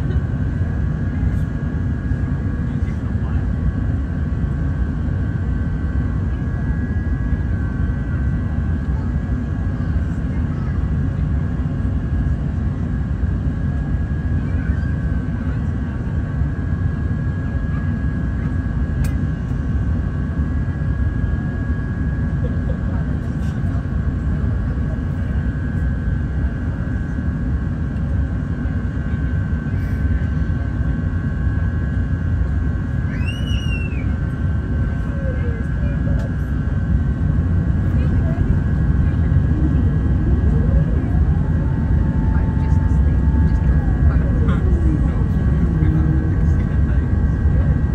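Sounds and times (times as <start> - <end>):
jet engine rumble and whine: 0.0 - 47.9.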